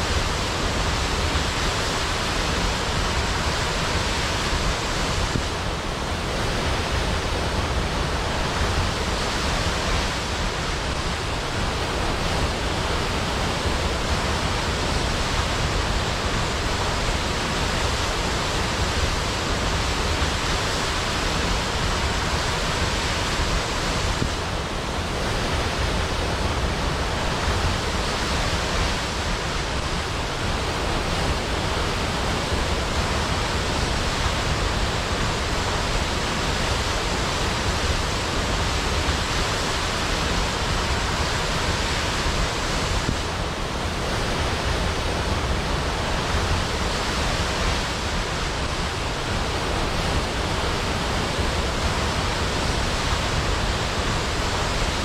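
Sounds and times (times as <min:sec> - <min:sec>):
waterfall rushing roar: 0:00.0 - 0:55.0.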